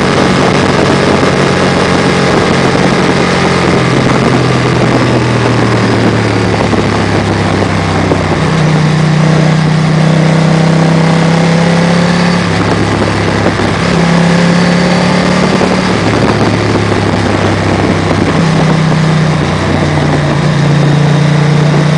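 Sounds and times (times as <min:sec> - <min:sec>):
motorcycle engine running: 0:00.0 - 0:21.9
wind rush on microphone: 0:00.0 - 0:21.9.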